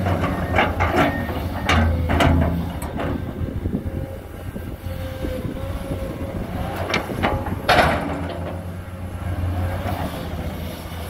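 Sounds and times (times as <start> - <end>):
excavator diesel engine working: 0.0 - 11.0.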